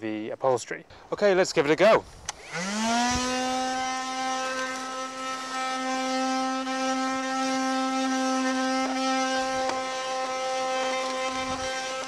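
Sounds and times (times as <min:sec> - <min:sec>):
handheld vacuum cleaner whirring: 0:02.3 - 0:12.0.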